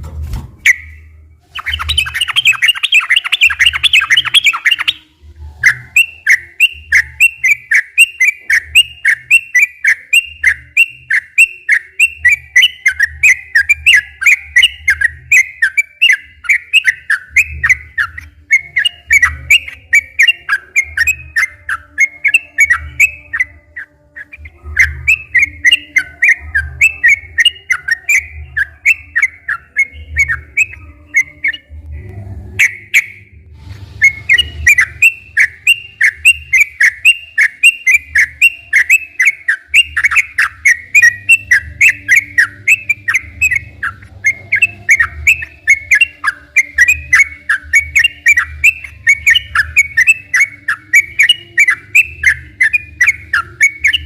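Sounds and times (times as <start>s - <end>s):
bird chattering song: 1.6s - 31.8s, 34.0s - 54.0s.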